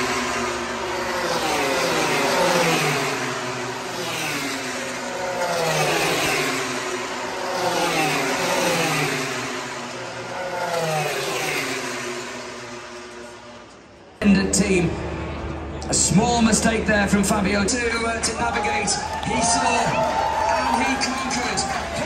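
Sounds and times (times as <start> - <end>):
race motorcycles passing by: 0.0 - 22.0.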